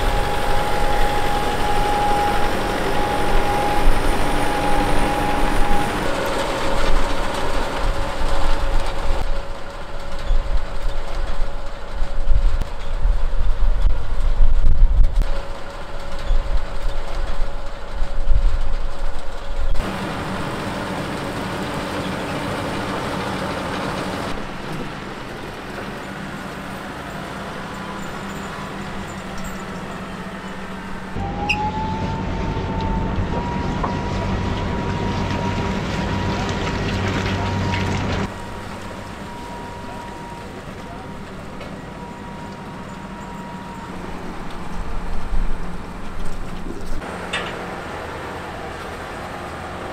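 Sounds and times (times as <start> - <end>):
high machine whine: 0.0 - 49.9
tracks rumbling and clattering: 0.0 - 49.9
tractor engine and machinery: 0.0 - 49.9.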